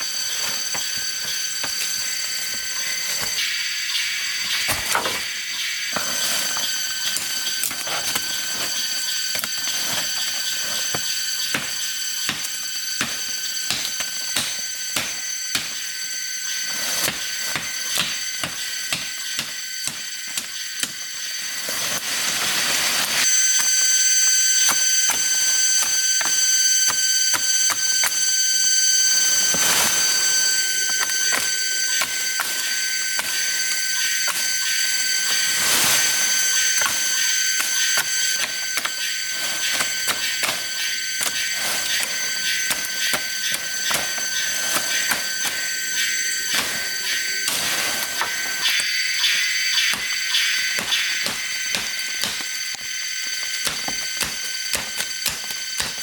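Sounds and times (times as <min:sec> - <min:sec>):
high-pitched ringing drone: 0:00.0 - 0:56.0.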